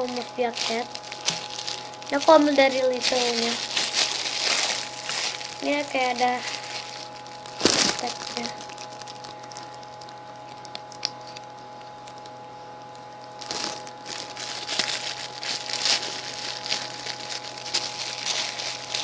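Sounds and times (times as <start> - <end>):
wrapping crinkling and rustling: 0.0 - 19.0.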